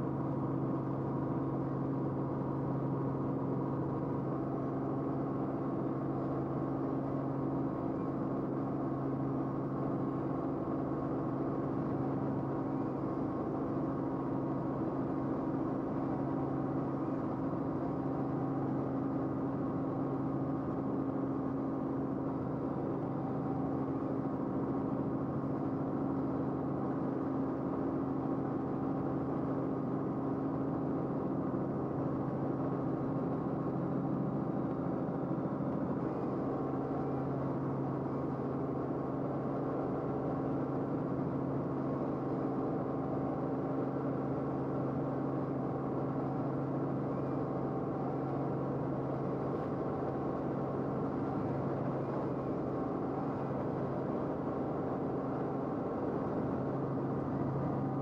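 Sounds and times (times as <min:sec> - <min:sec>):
aircraft drone in flight: 0:00.0 - 0:58.0.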